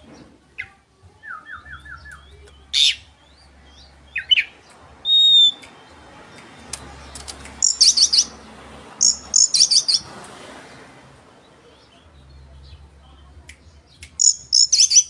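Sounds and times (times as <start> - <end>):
magpie-robin singing: 0.5 - 8.4, 9.0 - 10.1, 11.5 - 15.0.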